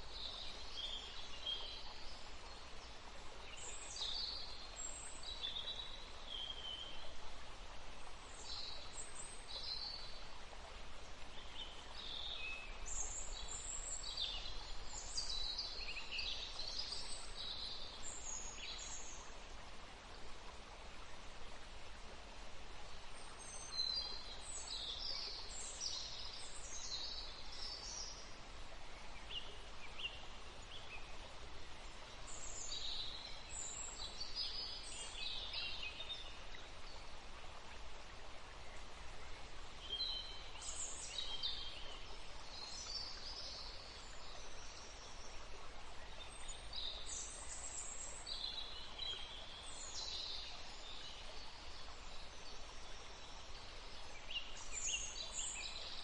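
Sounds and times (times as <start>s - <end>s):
soft hiss of breeze: 0.0s - 56.0s
songbirds chirping: 0.0s - 56.0s.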